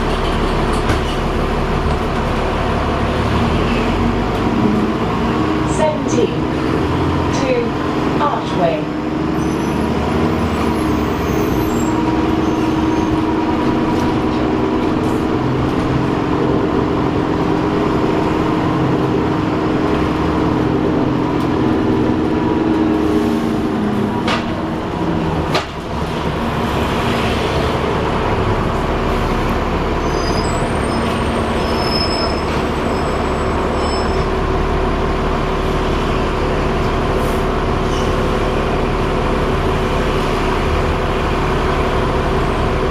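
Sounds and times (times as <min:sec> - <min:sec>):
bus engine whirring: 0:00.0 - 0:42.9
road noise: 0:00.0 - 0:42.9.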